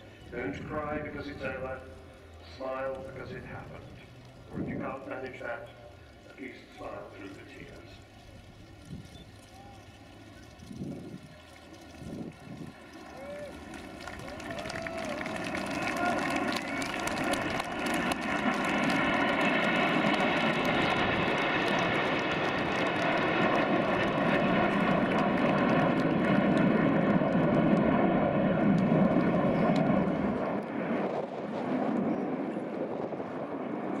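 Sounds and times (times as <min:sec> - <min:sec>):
jet engines roaring with whine: 0:00.0 - 0:34.0.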